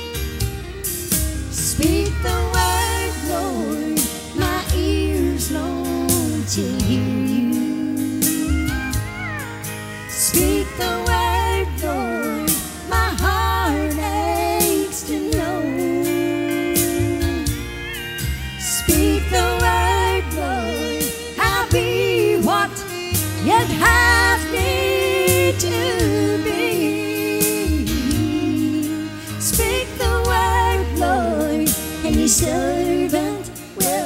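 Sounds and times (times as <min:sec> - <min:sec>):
backing track with bass and drums: 0:00.0 - 0:34.0
women singing with vibrato: 0:01.5 - 0:17.7, 0:18.6 - 0:34.0.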